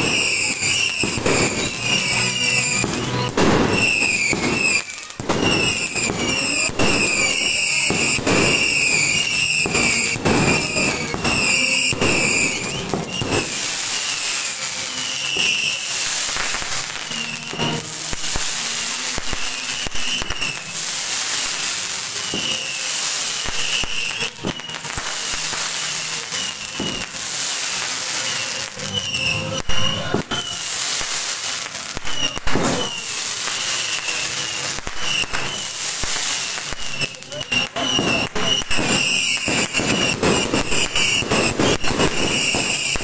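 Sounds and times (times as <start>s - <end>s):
fireworks bangs: 0.0s - 43.0s
fireworks crackling and hissing: 0.0s - 43.0s.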